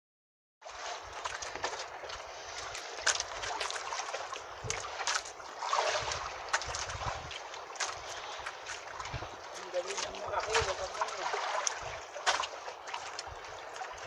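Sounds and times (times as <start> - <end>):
water sloshing against boat: 0.6 - 14.0.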